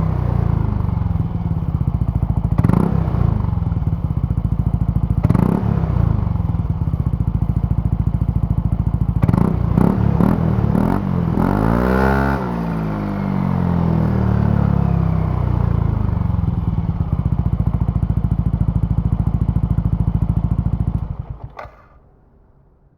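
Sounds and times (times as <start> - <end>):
scooter engine idling: 0.0 - 11.6, 12.8 - 22.1.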